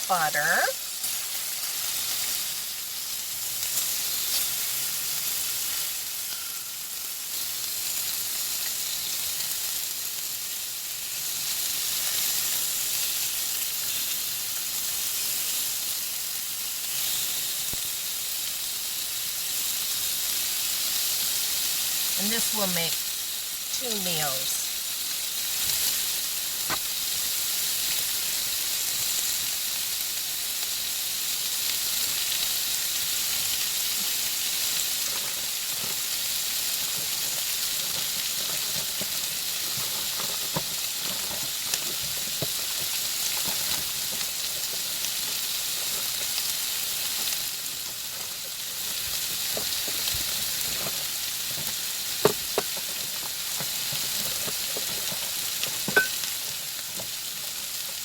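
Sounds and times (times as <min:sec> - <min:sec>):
chicken sizzling in a pan: 0:00.0 - 0:58.0.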